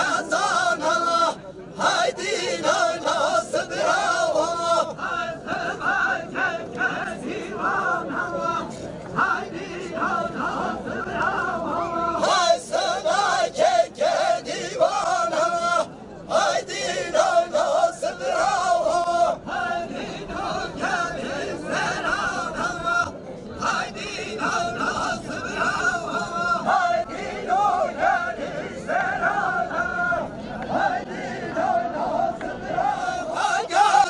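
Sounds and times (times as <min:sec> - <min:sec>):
crowd chatter: 0:00.0 - 0:34.0
men singing folk dance song: 0:00.0 - 0:34.0.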